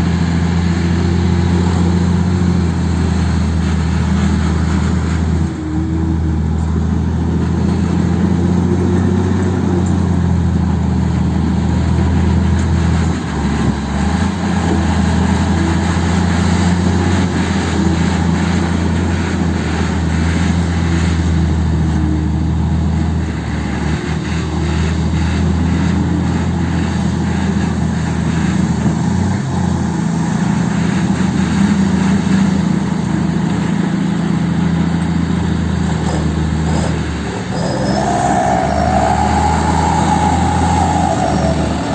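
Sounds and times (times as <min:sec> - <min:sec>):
heavy diesel engine droning: 0:00.0 - 0:41.9.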